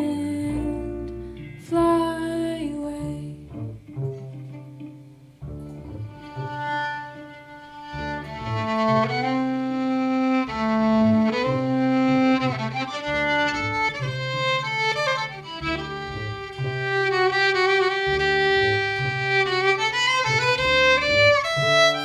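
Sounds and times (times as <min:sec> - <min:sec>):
bowed string melody: 0:00.0 - 0:22.0.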